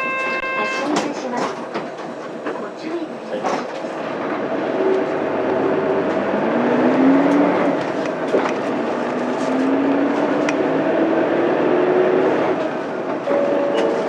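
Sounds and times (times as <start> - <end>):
bus diesel engine pulling: 0.0 - 14.0
road noise: 0.0 - 14.0.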